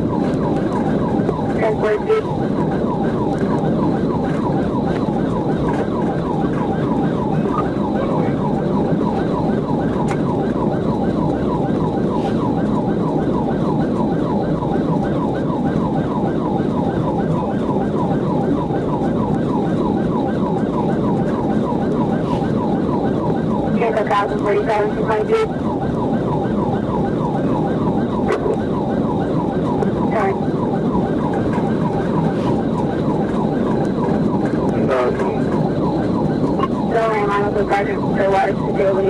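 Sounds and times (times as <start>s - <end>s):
police siren yelping: 0.0s - 39.0s.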